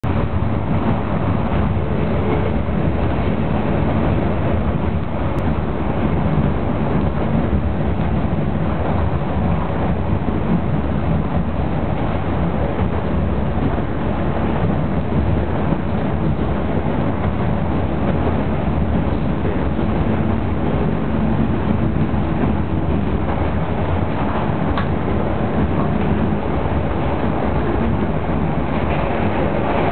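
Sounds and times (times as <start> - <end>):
diesel railcar running on track: 0.0 - 29.9.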